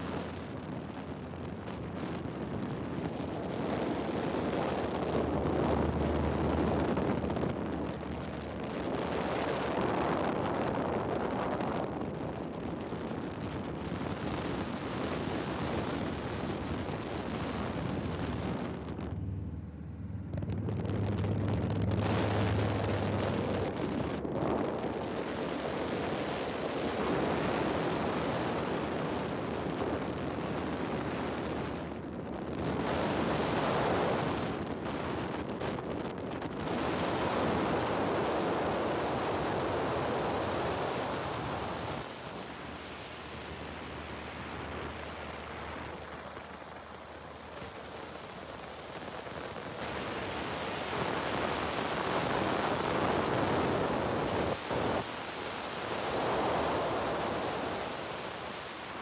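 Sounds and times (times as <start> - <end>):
low aircraft engine hum: 0.0 - 59.0
wind rushing over microphone: 0.0 - 59.0.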